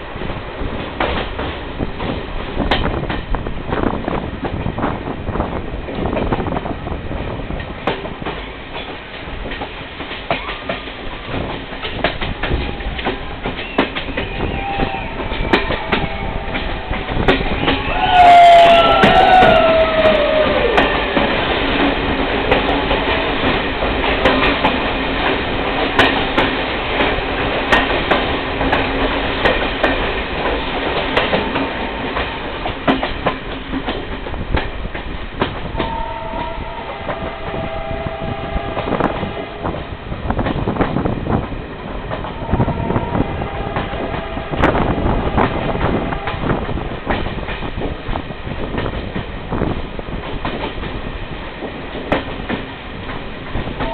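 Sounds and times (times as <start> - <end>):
train wheels clicking over rails: 0.0 - 37.8, 38.4 - 53.9
train rumble: 0.0 - 53.9.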